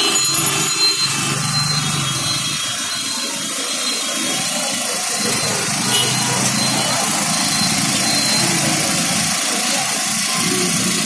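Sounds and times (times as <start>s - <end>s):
engine running: 0.0s - 11.0s
street noise hiss: 0.0s - 11.0s.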